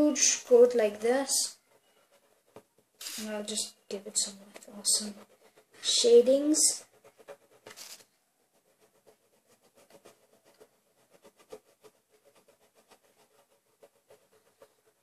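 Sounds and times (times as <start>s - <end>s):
pen scratching on paper: 0.2s - 15.0s.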